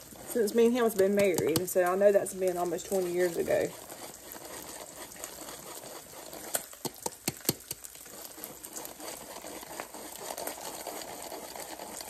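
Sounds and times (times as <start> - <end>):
flour sifter scratchy rattle: 0.0 - 12.0.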